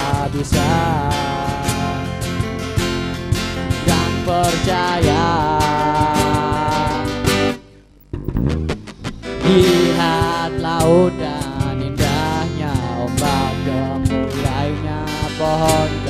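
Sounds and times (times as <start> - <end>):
acoustic guitars strumming: 0.0 - 16.0
steady bass: 0.0 - 16.0.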